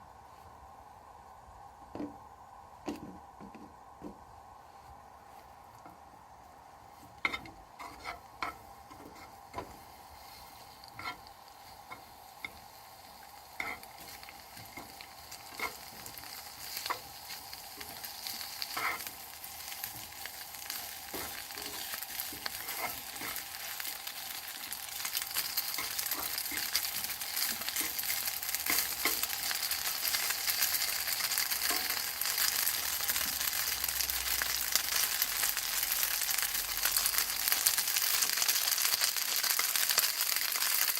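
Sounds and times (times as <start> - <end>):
food sizzling in a frying pan: 6.6 - 40.9.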